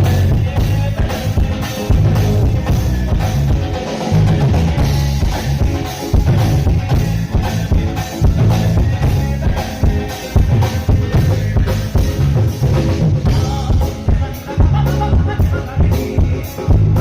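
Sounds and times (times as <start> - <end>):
drum kit beat: 0.0 - 17.0
sustained keyboard chords: 0.0 - 17.0.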